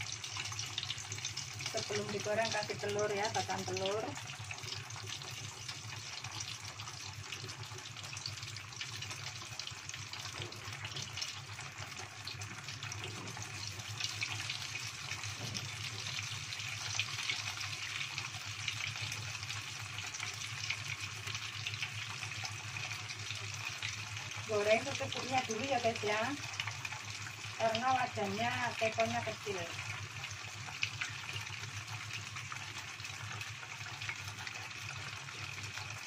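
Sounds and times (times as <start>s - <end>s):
hot oil sizzling and crackling: 0.0s - 36.0s.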